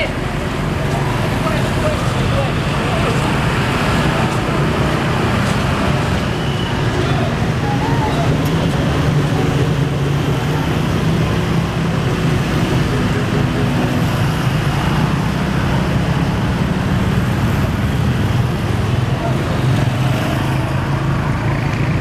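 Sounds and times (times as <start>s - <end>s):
diesel bus engine humming: 0.0s - 22.0s
traffic noise: 0.0s - 22.0s.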